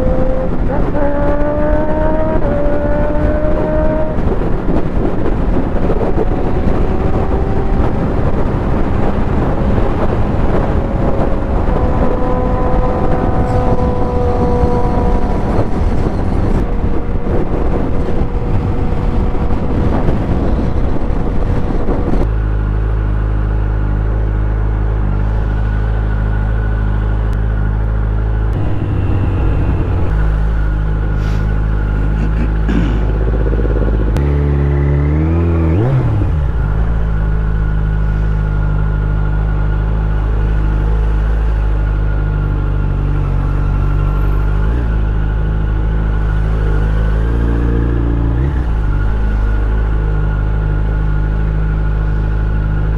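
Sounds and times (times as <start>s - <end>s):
motorcycle engine: 0.0s - 52.9s
wind rush on microphone: 0.0s - 52.9s.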